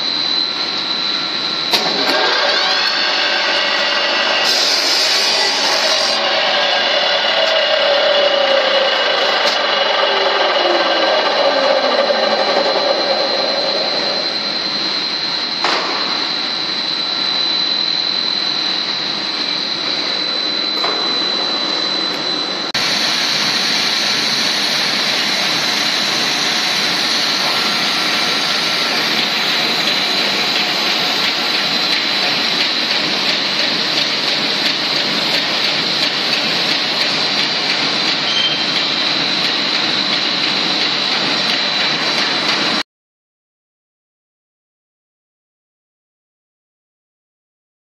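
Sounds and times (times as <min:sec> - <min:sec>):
machine hiss with high-pitched whine: 0:00.0 - 0:42.8.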